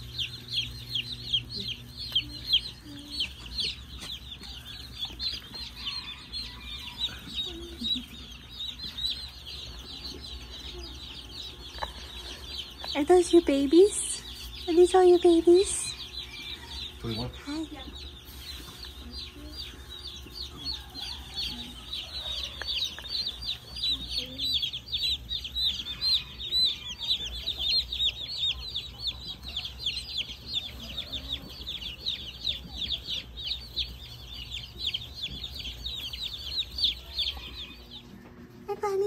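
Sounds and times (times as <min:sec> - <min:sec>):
baby chicks peeping: 0:00.0 - 0:39.0
low steady hum: 0:00.0 - 0:39.0.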